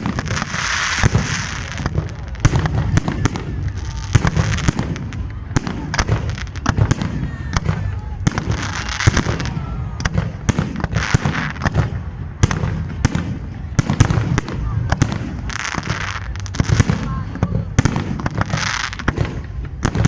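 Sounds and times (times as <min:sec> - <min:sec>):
firework sparkles crackling: 0:00.0 - 0:20.0.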